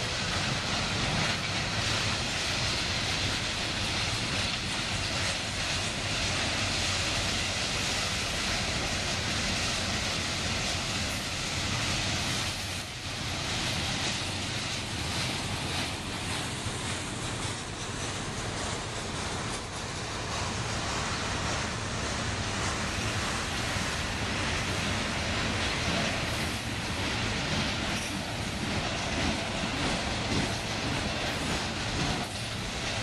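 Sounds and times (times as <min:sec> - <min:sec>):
freight train wheels rumbling: 0:00.0 - 0:33.0.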